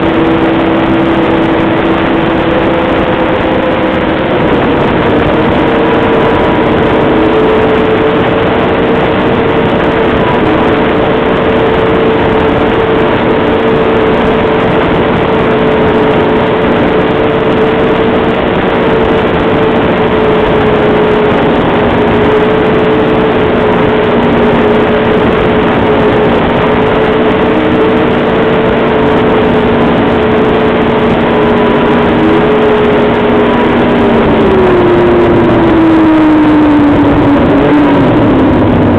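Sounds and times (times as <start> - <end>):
dense rushing noise: 0.0 - 38.9
snowmobile engine running: 0.0 - 38.9.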